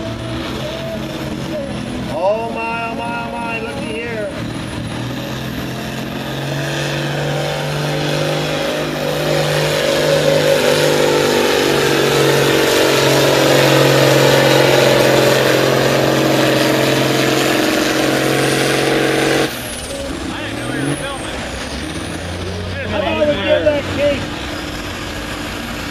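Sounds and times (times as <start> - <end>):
tractor engine under load: 0.0 - 25.9.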